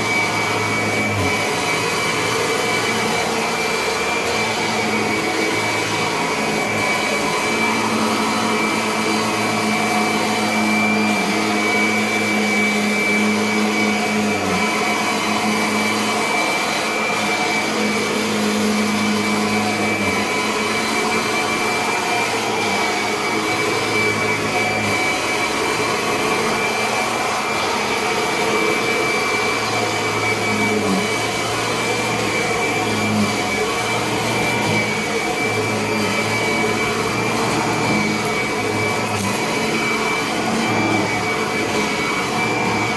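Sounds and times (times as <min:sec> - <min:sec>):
vacuum cleaner whining: 0:00.0 - 0:42.9.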